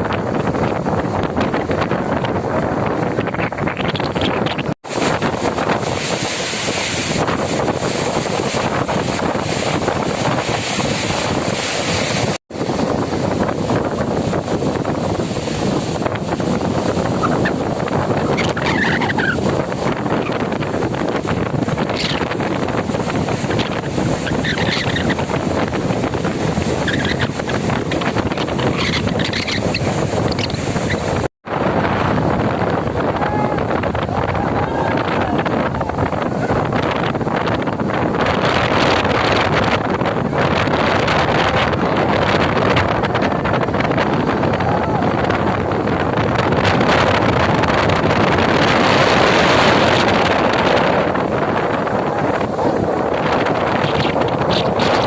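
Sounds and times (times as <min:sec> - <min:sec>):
rushing water or surf: 0:00.0 - 0:55.0
wind buffeting microphone: 0:00.0 - 0:55.0.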